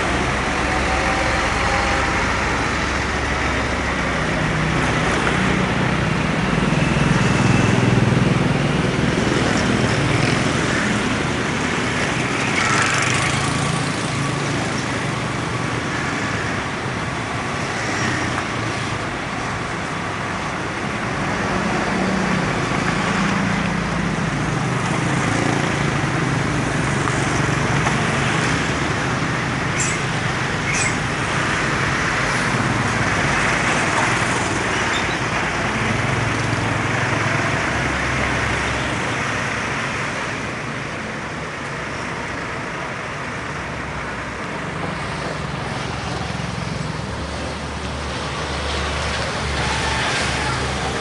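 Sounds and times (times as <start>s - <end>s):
diesel trucks driving past: 0.0s - 51.0s
road noise: 0.0s - 51.0s.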